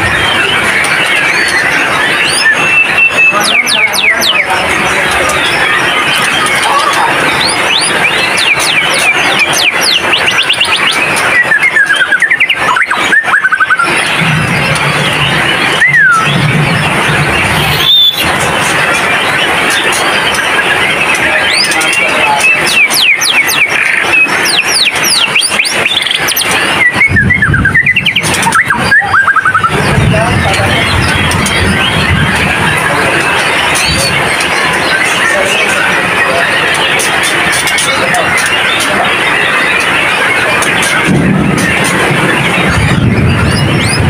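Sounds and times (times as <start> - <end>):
bird singing whistled notes: 0.0 - 44.0
steady background din: 0.0 - 44.0.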